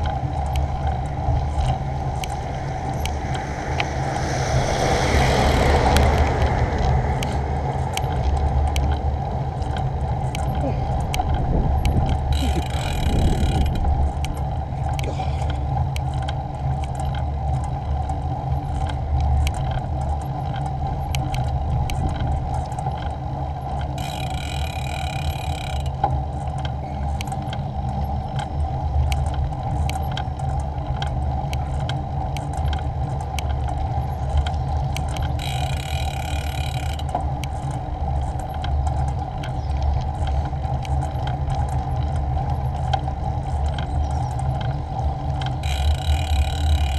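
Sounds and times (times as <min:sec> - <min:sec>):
bicycle clicks and rattles: 0:00.0 - 0:46.9
bicycle tyres rumbling on tarmac: 0:00.0 - 0:46.9.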